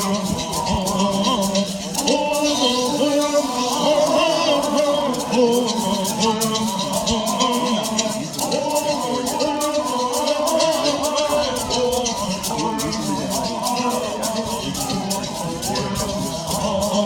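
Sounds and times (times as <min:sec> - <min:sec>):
gourd rattles shaken: 0:00.0 - 0:17.0
voices singing together: 0:00.0 - 0:17.0.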